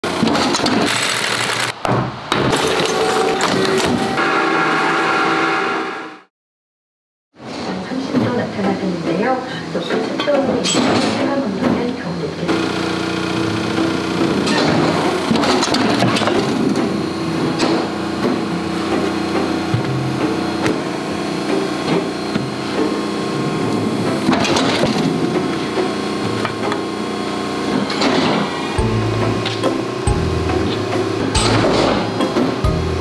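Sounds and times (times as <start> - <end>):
factory machinery hum: 0.0 - 6.2, 7.4 - 33.0.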